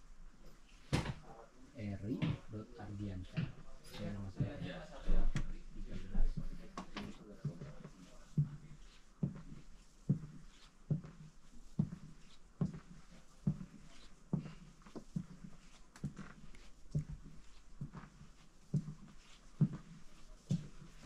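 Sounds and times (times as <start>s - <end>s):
footsteps in train aisle: 2.1s - 21.0s.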